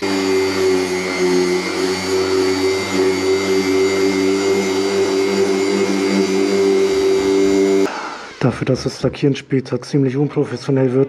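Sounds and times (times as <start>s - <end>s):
orbital sander on metal: 0.0s - 9.0s.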